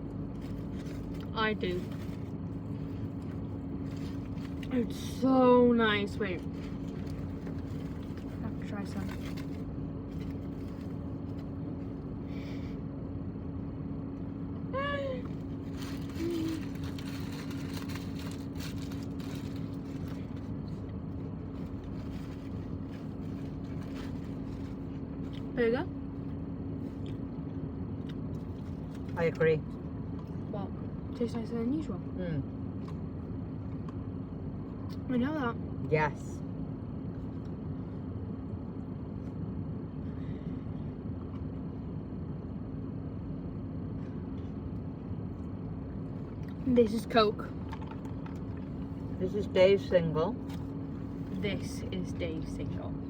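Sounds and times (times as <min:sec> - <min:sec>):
low machine hum with constant tone: 0:00.0 - 0:53.0.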